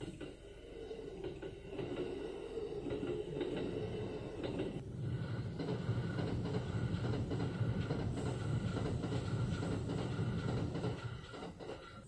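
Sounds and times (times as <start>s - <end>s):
train wheels clattering over rails: 0.0s - 12.0s.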